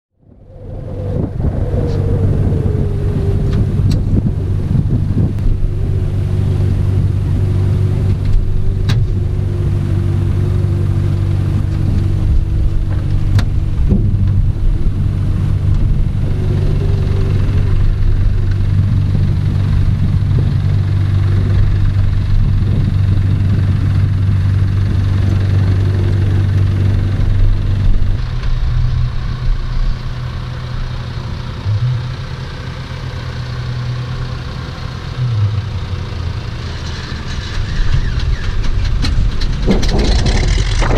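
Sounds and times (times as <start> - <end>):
propeller plane engine drone: 0.1 - 40.9.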